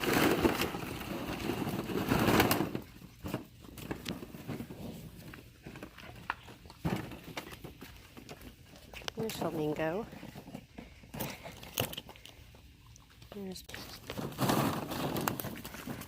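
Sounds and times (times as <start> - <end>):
puppies biting plastic: 0.0 - 9.4, 10.2 - 16.0
plastic balls rustling: 0.0 - 12.4, 13.4 - 16.0.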